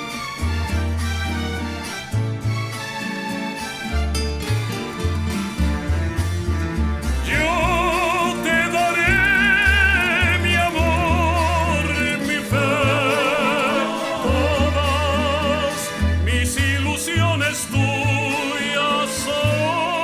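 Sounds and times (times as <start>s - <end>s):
serenade music with vibrato melody: 0.0s - 20.0s.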